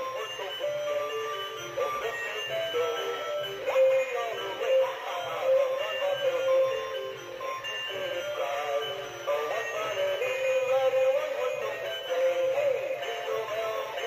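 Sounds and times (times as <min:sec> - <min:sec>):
toy playing christmas song: 0:00.0 - 0:14.0.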